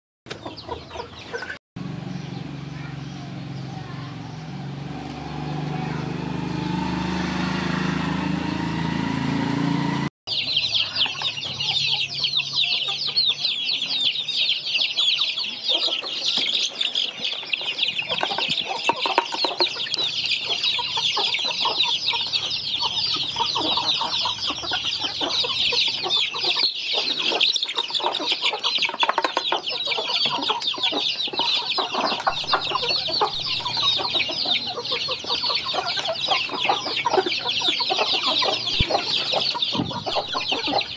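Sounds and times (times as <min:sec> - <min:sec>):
chicks cheeping: 0:00.3 - 0:09.0, 0:10.3 - 0:40.9.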